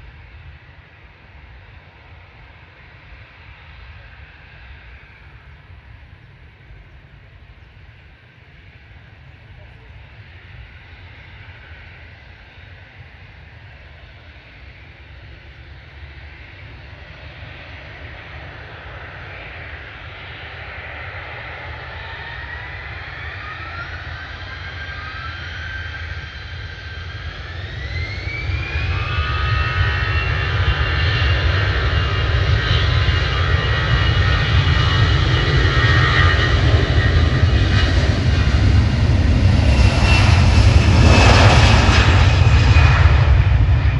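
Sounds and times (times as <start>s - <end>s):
jet airliner engines: 0.0s - 43.9s.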